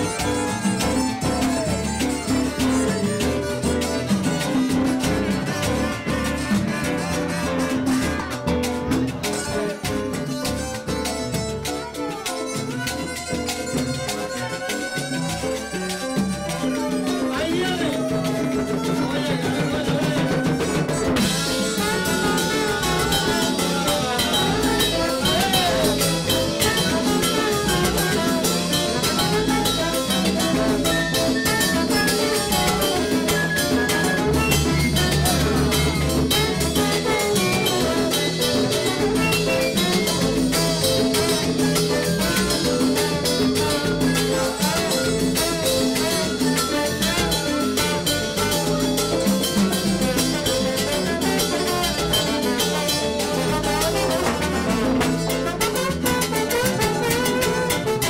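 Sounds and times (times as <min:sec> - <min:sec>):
salsa band playing: 0:00.0 - 0:58.0.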